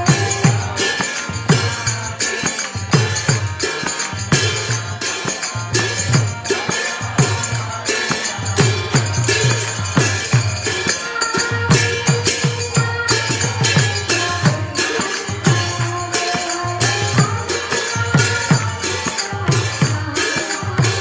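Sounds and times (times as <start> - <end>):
clashing hand cymbals: 0.0 - 21.0
hand drum rhythm: 0.0 - 21.0.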